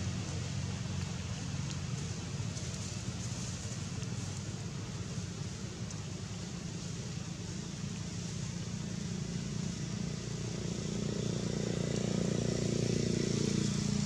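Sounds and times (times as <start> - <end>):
outdoor hiss: 0.0 - 14.0
traffic rumble: 0.0 - 14.0.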